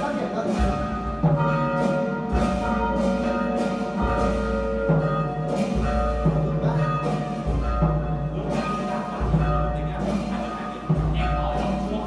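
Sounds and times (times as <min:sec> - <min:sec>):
church bells tolling: 0:00.0 - 0:12.0.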